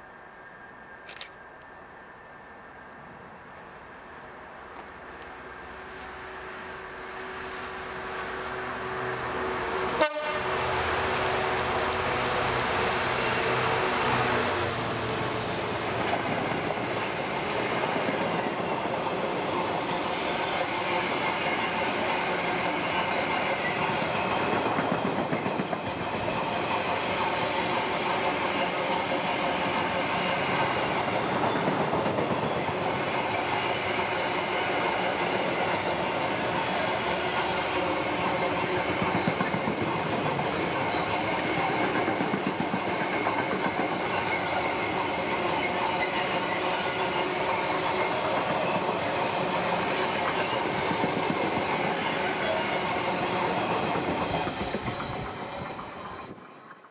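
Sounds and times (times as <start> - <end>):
diesel locomotive engine passing: 1.8 - 56.9
train wheels rattling on track: 7.5 - 56.9.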